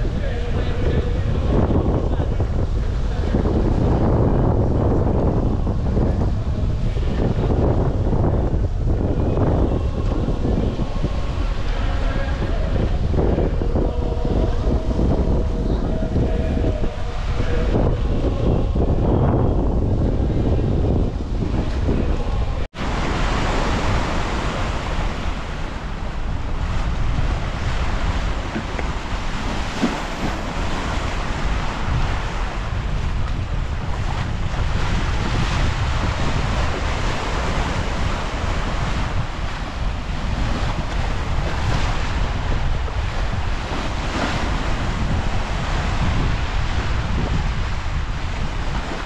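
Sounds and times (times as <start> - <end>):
rush of sea waves: 0.0 - 49.0
wind buffeting microphone: 0.0 - 49.0.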